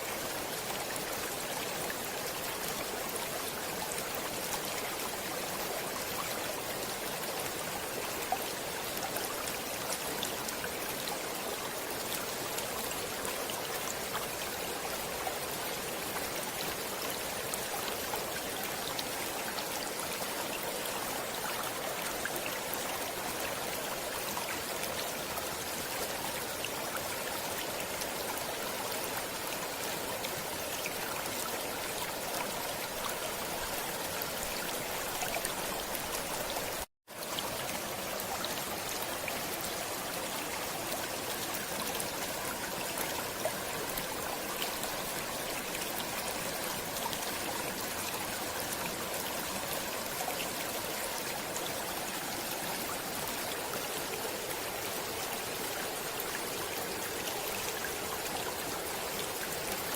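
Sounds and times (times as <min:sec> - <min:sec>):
stream of water flowing: 0:00.0 - 0:59.9.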